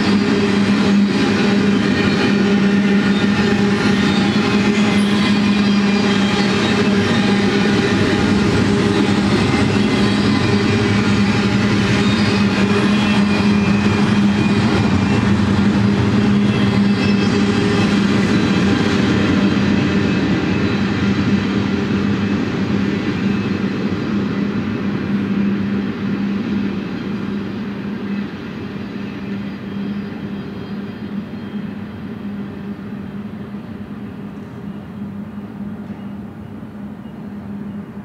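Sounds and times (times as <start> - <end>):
freight train cars rolling on rails: 0.0 - 38.0.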